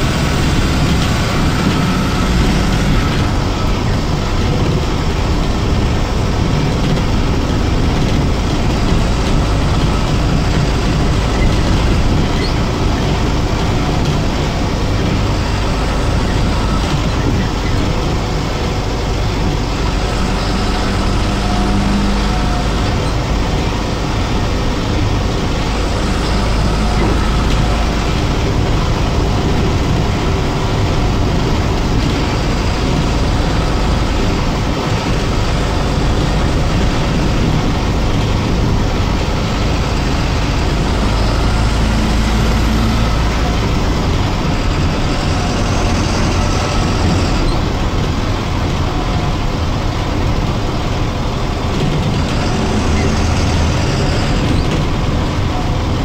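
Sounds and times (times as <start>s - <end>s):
bus diesel engine running: 0.0s - 56.0s
road and body noise: 0.0s - 56.0s.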